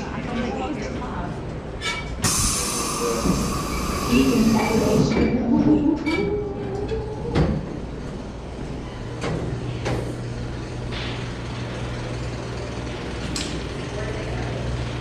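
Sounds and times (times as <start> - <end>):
low drone of hall: 0.0 - 15.0.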